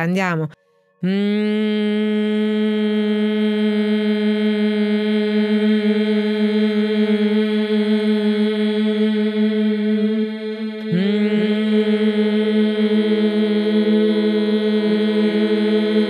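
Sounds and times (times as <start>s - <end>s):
woman holding a sustained vocal tone: 1.0s - 16.0s.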